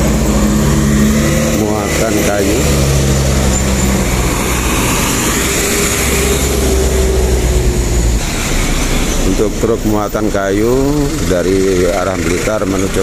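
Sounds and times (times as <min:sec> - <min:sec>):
heavy vehicle engine drone: 0:00.0 - 0:13.0.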